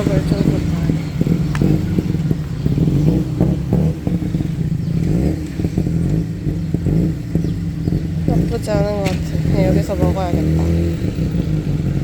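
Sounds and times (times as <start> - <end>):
engine clatter: 0.0 - 12.0
vehicle engine running: 0.0 - 12.0.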